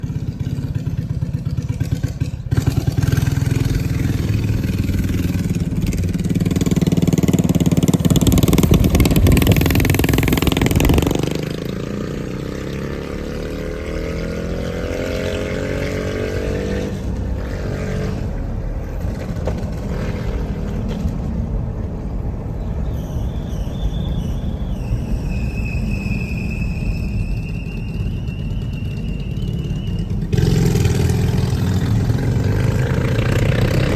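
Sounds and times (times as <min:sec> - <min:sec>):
small motorbike engine revving: 0:00.0 - 0:21.0, 0:26.8 - 0:33.9.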